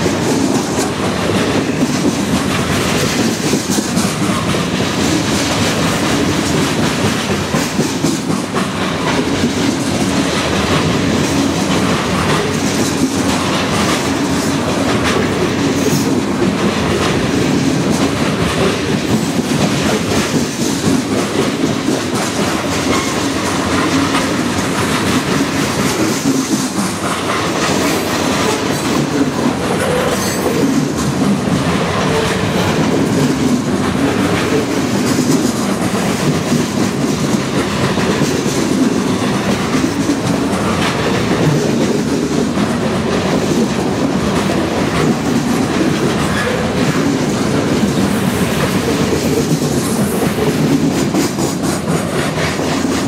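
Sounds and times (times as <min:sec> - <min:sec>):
train wheels clattering on rail: 0:00.0 - 0:53.0.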